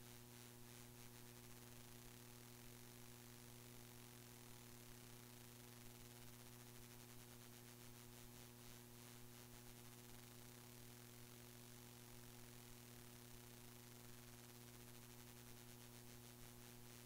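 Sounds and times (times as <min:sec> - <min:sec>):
faint electrical hum and hiss: 0:00.0 - 0:17.0.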